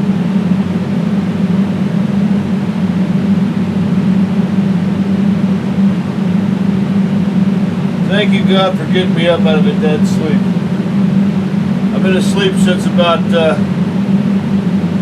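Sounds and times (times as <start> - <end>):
loud mechanical drone: 0.0 - 15.0.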